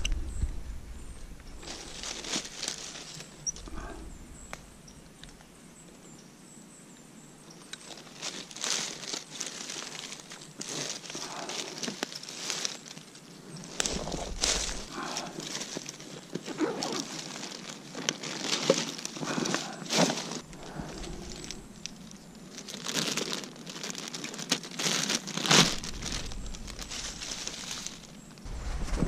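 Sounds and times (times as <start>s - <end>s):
footsteps through dry leaves: 1.6s - 4.0s, 7.8s - 29.0s.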